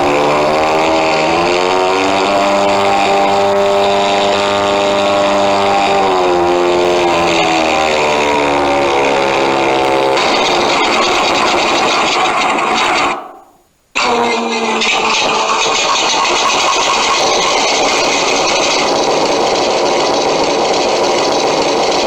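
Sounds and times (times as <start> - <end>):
simulated piston engine sound: 0.0 - 22.0.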